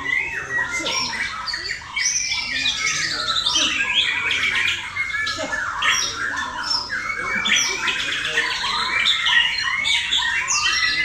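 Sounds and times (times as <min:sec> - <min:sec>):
songbird singing rapid phrases: 0:00.0 - 0:11.0.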